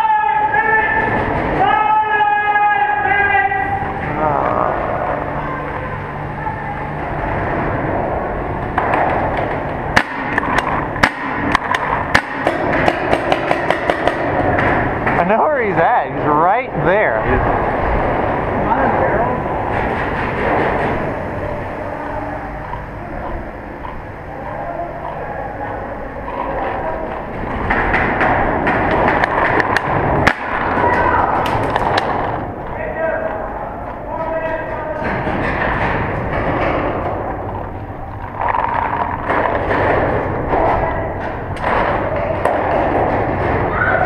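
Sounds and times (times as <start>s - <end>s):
steady background noise: 0.0s - 44.0s
steady rough noise: 0.0s - 44.0s.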